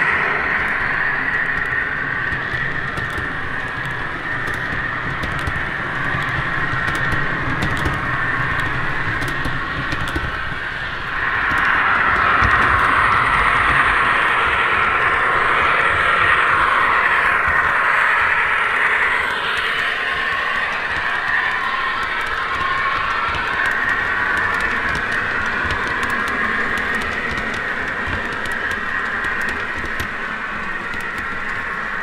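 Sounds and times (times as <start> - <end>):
model train diesel engine sound: 0.0 - 32.0
wheels humming on track: 0.0 - 32.0.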